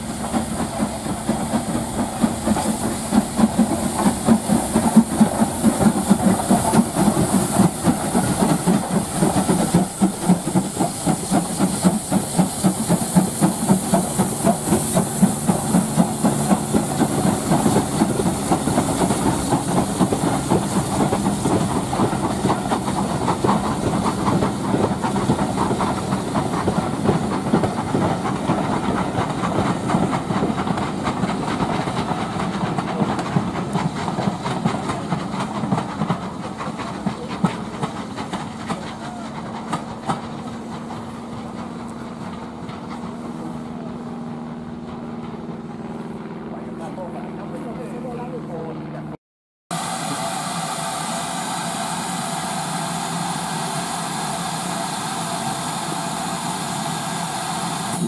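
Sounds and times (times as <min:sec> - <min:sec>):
steam hissing: 0:00.0 - 0:44.8, 0:49.7 - 0:58.0
train wheels clattering over rail joints: 0:00.0 - 0:46.5
steam locomotive chuffing: 0:00.0 - 0:58.0.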